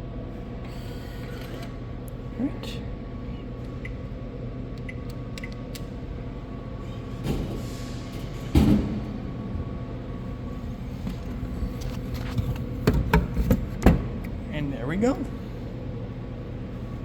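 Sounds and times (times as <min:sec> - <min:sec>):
vending machine hum: 0:00.0 - 0:17.0.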